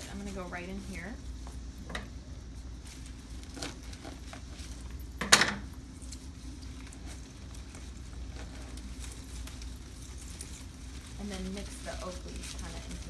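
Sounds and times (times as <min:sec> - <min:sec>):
rustling of artificial flower stems: 0:00.0 - 0:13.0
steady low hum: 0:00.0 - 0:13.0.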